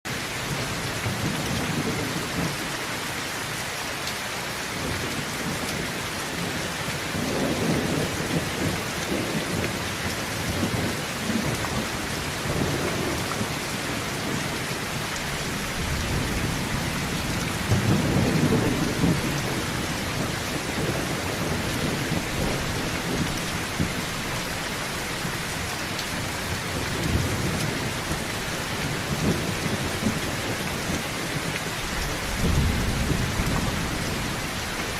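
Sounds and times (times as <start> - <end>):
heavy rain on a tin roof: 0.0 - 34.9
thunder rumbling: 6.4 - 34.9.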